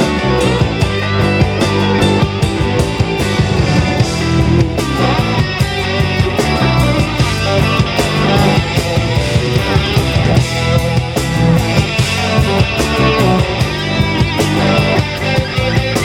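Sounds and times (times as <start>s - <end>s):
rock band instrumental: 0.0s - 16.0s.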